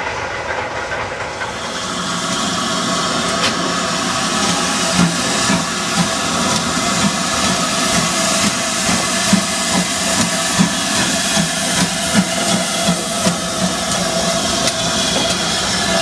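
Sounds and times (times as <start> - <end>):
steam hissing: 0.0 - 16.0
steam locomotive exhaust beats: 0.0 - 16.0.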